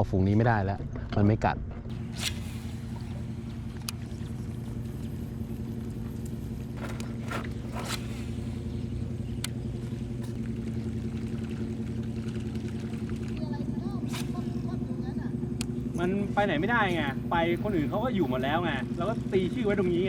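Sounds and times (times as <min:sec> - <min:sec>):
boat motor humming: 0:01.8 - 0:20.0.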